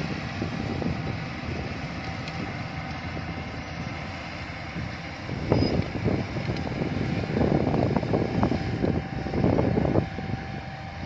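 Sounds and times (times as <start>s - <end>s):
distant combine harvester running: 0.0s - 11.0s
wind buffeting microphone: 0.0s - 11.0s.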